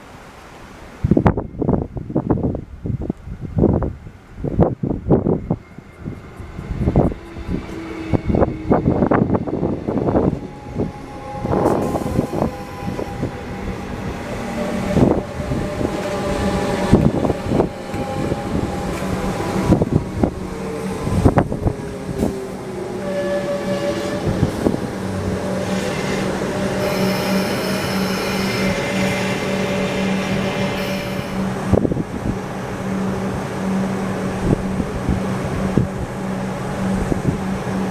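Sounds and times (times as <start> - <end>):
low train hum: 0.0 - 37.9.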